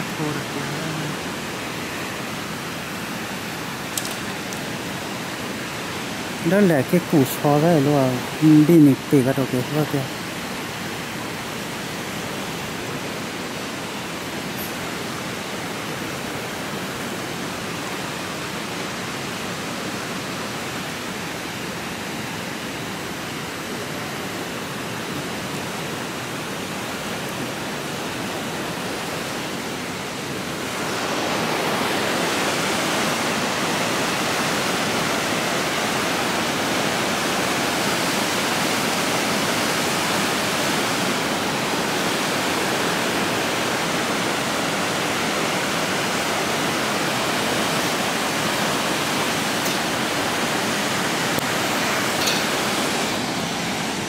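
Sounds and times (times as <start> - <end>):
whitewater rushing: 0.0 - 54.0.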